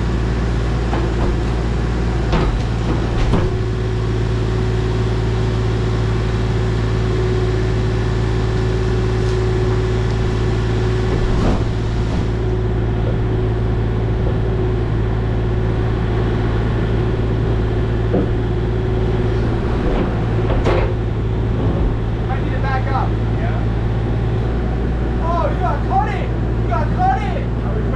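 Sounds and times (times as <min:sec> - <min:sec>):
diesel engine droning: 0:00.0 - 0:27.9.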